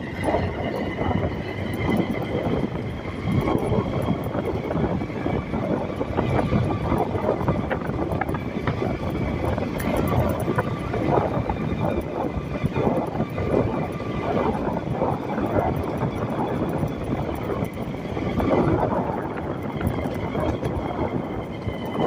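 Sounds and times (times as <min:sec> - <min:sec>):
vehicle rumbling: 0:00.0 - 0:22.0.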